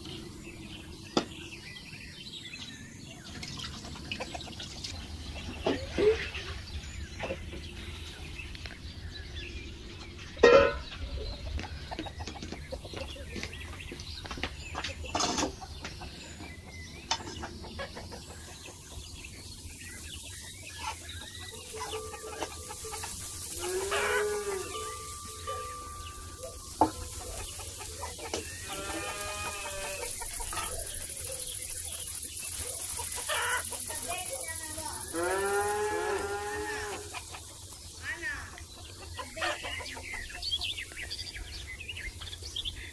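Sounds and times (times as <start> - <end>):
chickens clucking: 2.9 - 42.9.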